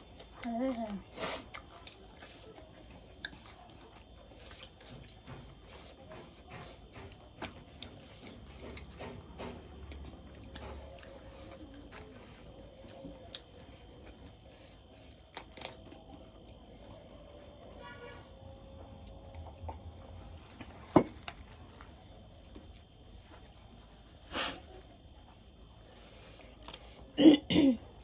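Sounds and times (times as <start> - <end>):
person chewing food: 0.0 - 17.8, 18.4 - 27.2.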